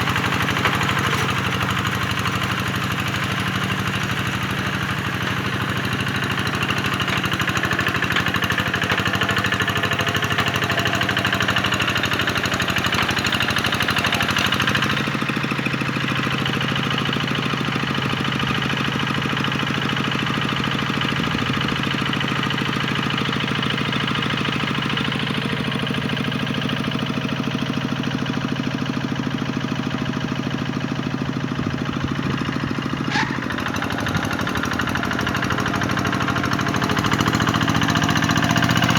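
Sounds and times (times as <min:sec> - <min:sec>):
tractor engine knocking: 0:00.0 - 0:38.9.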